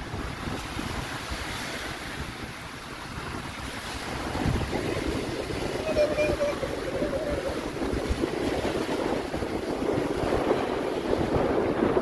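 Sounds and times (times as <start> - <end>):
small waves breaking on sand: 0.0 - 12.0
wind buffeting microphone: 0.0 - 12.0.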